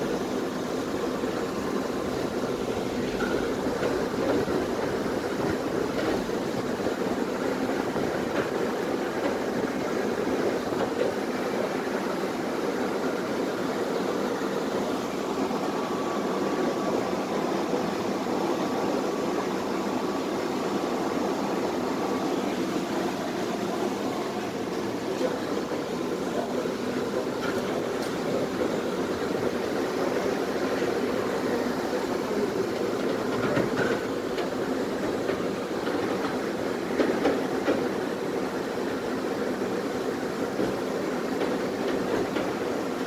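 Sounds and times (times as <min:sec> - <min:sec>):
tram car running: 0:00.0 - 0:43.0.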